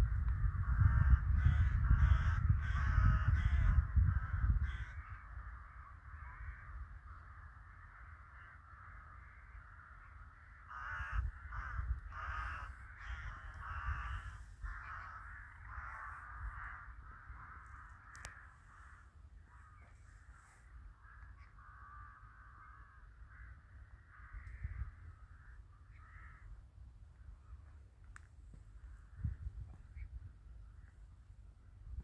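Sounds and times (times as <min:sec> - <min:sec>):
crows cawing: 0:00.2 - 0:26.6.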